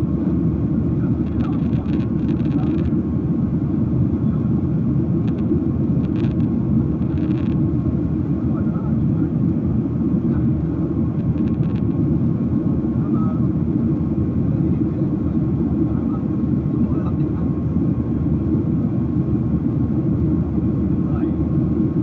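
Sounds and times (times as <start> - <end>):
faint steady whine: 0.0 - 22.0
jet engine and airflow rumble: 0.0 - 22.0.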